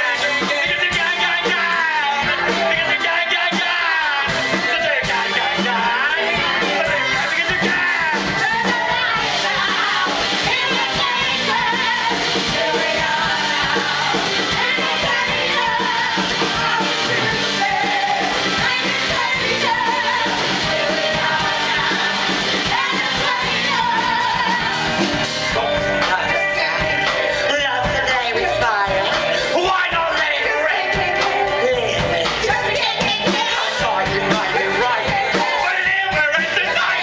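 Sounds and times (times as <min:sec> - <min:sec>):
band accompaniment: 0:00.0 - 0:37.0
voices singing: 0:00.0 - 0:37.0.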